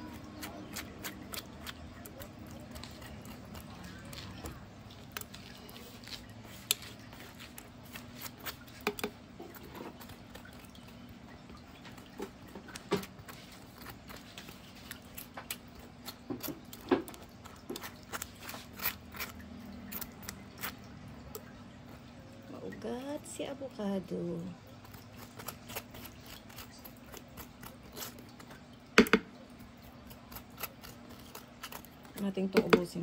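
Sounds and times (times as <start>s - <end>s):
spoon scraping avocado flesh: 0.0s - 22.1s, 24.8s - 29.1s, 29.7s - 33.0s.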